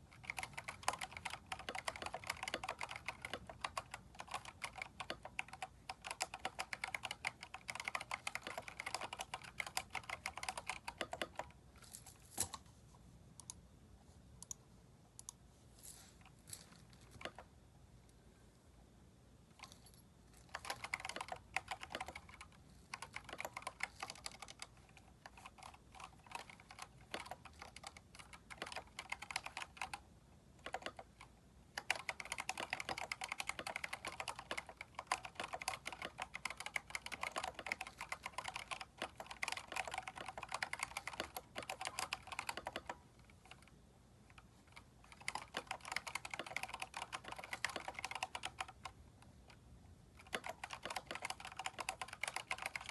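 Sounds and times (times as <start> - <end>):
mechanical keyboard typing: 0.0 - 11.6, 16.2 - 17.5, 20.4 - 52.9.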